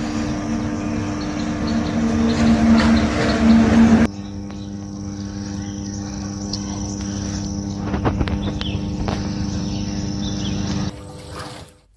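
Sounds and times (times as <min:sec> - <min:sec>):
low machine-like hum: 0:00.0 - 0:11.9.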